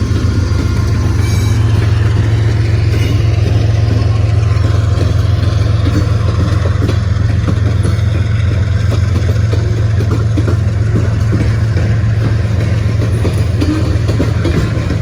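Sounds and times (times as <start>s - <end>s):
diesel locomotives droning: 0.0s - 15.0s.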